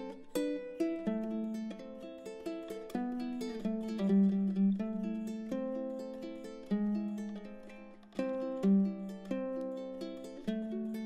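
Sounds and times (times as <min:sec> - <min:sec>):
plucked ukulele melody: 0:00.0 - 0:11.0.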